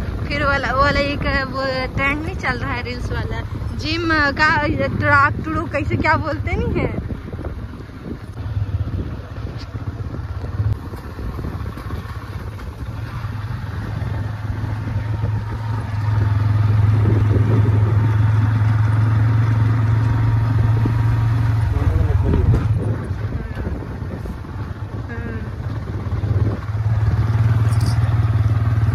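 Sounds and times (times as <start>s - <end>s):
motorcycle engine running: 0.0s - 28.9s
wind rumble on microphone: 0.0s - 28.9s.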